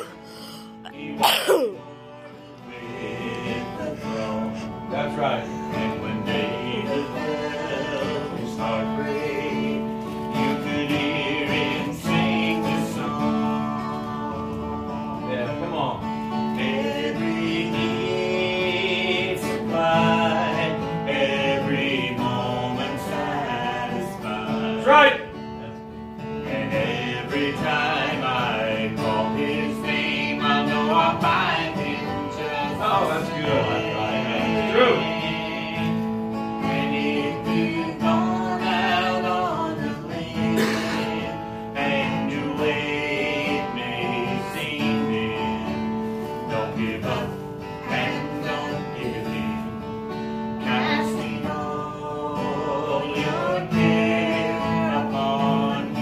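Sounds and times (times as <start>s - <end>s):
man and woman singing: 0.0s - 15.3s, 16.2s - 25.4s, 26.4s - 56.0s
strummed acoustic guitar: 0.0s - 56.0s.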